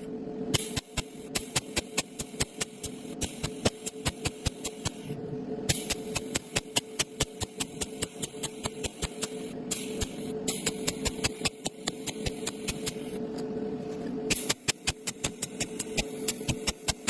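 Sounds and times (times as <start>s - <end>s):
welding hum and hiss: 0.0s - 17.0s
welding arc clicking: 0.6s - 5.0s, 5.7s - 13.2s, 14.3s - 17.0s.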